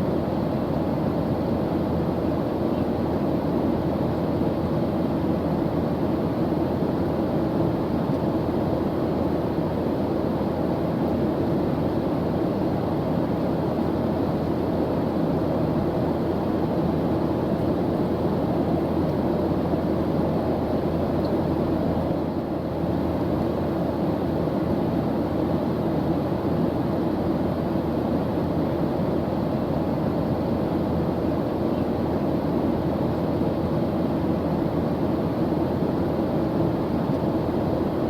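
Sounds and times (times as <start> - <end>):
airplane engine droning: 0.0 - 38.0.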